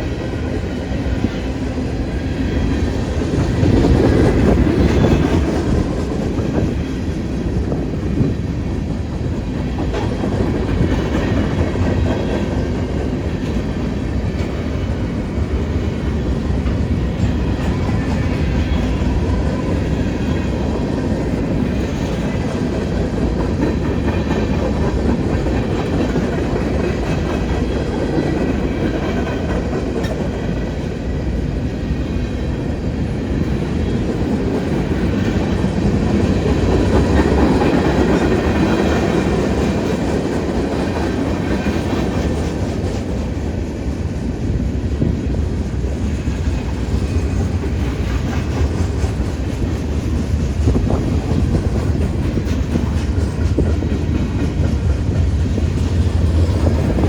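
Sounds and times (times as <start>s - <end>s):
clickety-clack over rail joints: 0.0s - 57.0s
freight train wheels rumbling: 0.0s - 57.0s.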